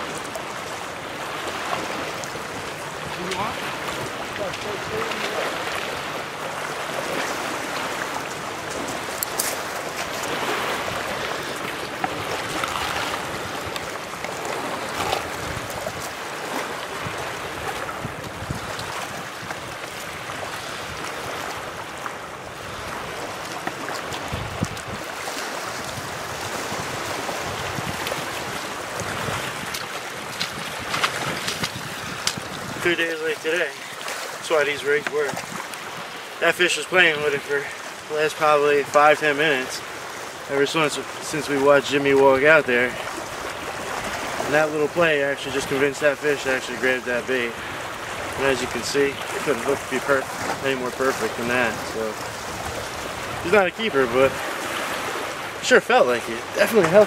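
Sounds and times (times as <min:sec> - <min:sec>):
small waves lapping: 0:00.0 - 0:57.0.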